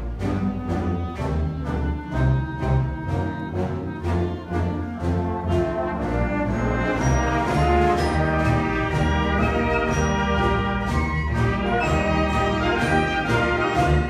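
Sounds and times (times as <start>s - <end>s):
concert band playing: 0.0s - 14.0s.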